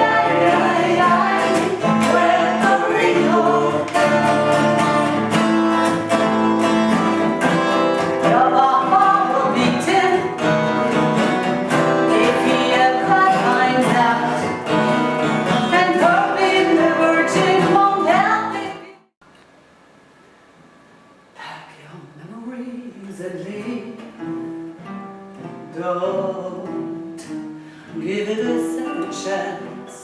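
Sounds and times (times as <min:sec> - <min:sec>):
country song with singing and guitar: 0:00.0 - 0:19.0, 0:22.2 - 0:24.5, 0:25.4 - 0:30.0.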